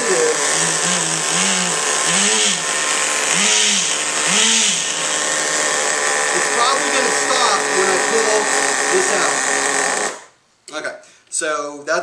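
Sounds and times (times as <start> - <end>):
model engine running: 0.0 - 10.3.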